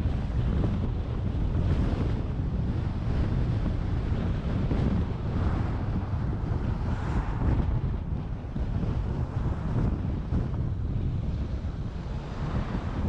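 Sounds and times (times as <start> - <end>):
car road and wind noise: 0.0 - 13.0
wind rumbling on microphone: 0.0 - 13.0.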